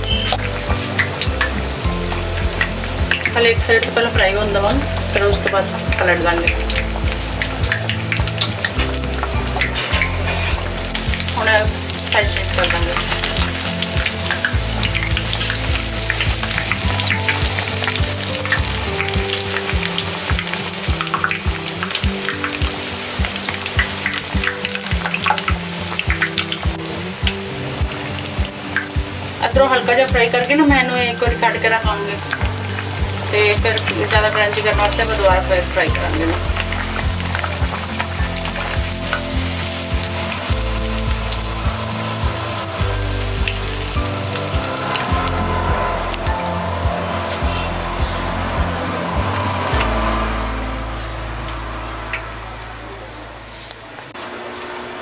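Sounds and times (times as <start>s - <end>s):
food deep frying in oil: 0.0s - 50.4s
low steady tones changing pitch: 0.0s - 54.2s.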